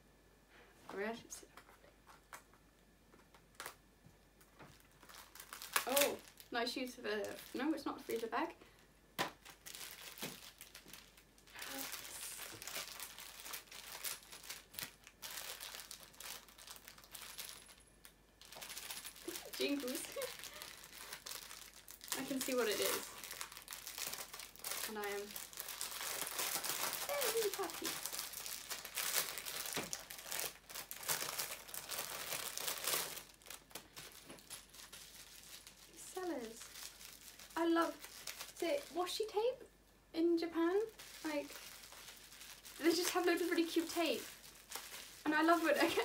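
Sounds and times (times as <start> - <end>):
plastic packet crinkling: 3.3 - 3.8, 4.4 - 39.3, 40.7 - 46.0.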